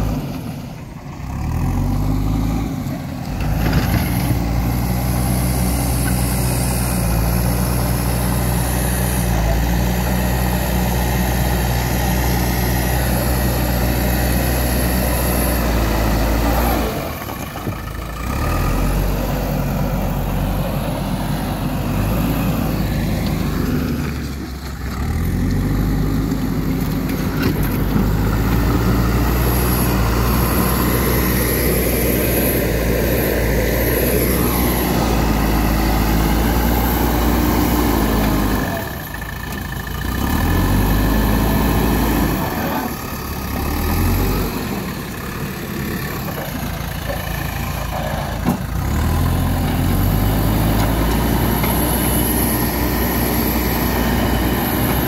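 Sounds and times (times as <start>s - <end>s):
backhoe diesel engine under load: 0.0s - 55.0s.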